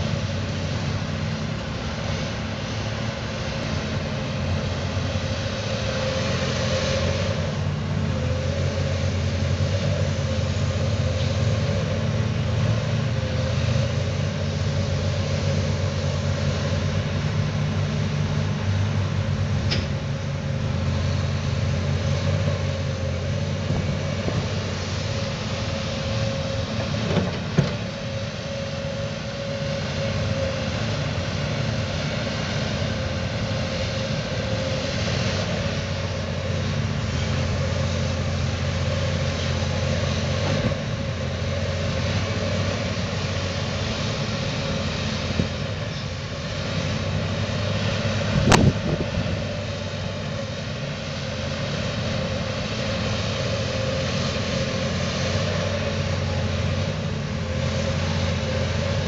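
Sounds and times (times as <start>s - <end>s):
excavator diesel engine running: 0.0s - 59.0s
steady whine: 0.0s - 59.0s.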